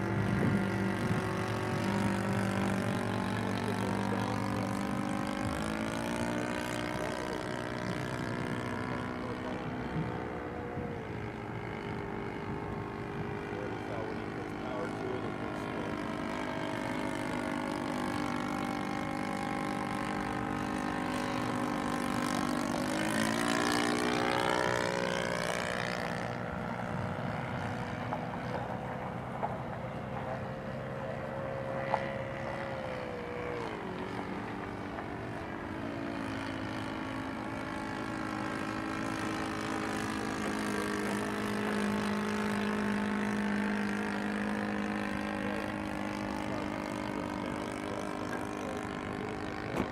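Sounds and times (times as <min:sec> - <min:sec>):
model plane engine droning: 0:00.0 - 0:49.9.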